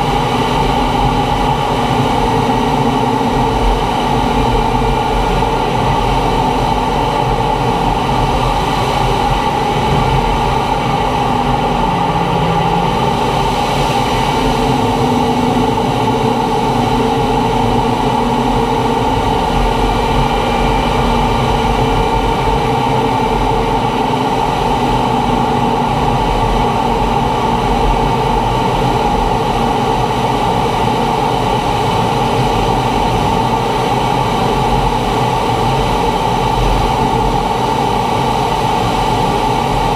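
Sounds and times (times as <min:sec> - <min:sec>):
jet engine whine: 0:00.0 - 0:39.9
rushing air: 0:00.0 - 0:39.9.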